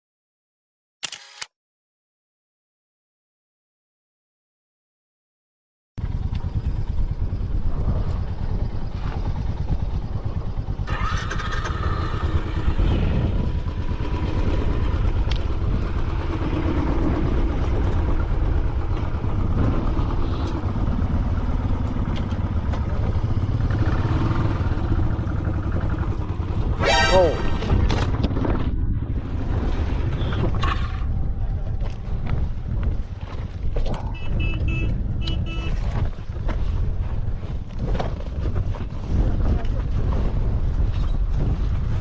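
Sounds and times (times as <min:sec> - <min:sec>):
motorcycle engine running: 0:06.0 - 0:42.0.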